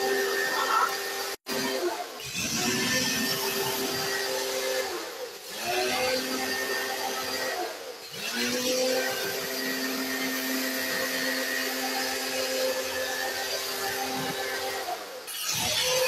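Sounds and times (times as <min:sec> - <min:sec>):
pressure washer motor hum: 0:00.0 - 0:16.0.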